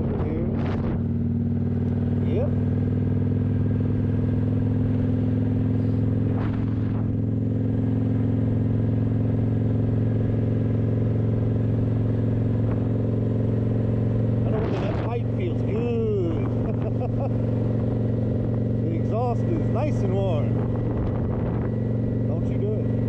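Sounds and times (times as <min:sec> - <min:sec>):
motorcycle engine running steadily: 0:00.0 - 0:23.0.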